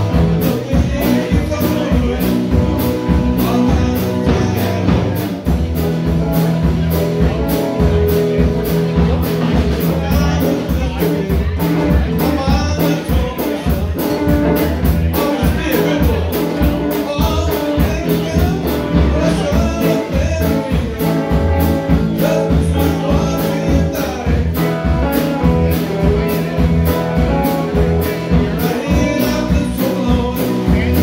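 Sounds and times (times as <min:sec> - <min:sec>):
drum kit cymbal beat: 0:00.0 - 0:31.0
electric bass: 0:00.0 - 0:31.0
electric guitars: 0:00.0 - 0:31.0.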